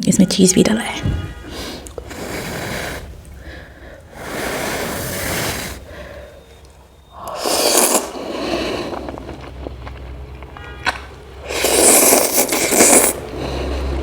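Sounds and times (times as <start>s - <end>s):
noodles being slurped: 1.6s - 10.7s, 11.4s - 14.0s.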